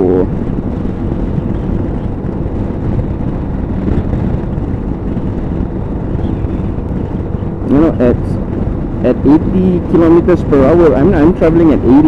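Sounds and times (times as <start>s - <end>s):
motorcycle engine drone: 0.0s - 12.0s
wind and road noise: 0.0s - 12.0s.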